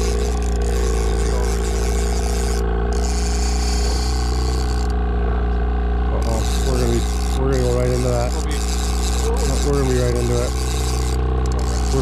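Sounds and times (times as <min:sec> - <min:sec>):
boat motor drone: 0:00.0 - 0:12.0
fishing reel gear whirring: 0:00.0 - 0:12.0.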